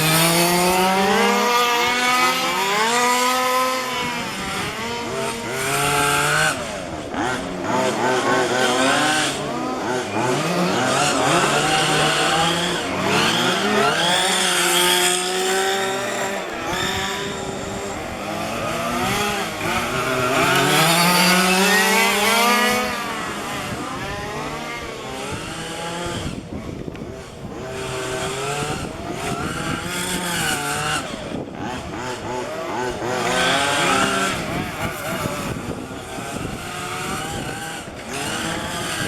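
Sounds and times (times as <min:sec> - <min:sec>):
small two-stroke engines revving: 0:00.0 - 0:39.0.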